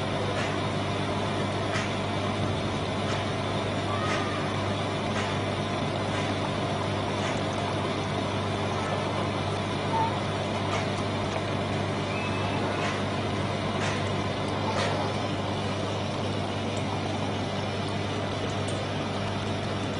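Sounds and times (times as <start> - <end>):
mechanical hum with hiss: 0.0 - 19.9.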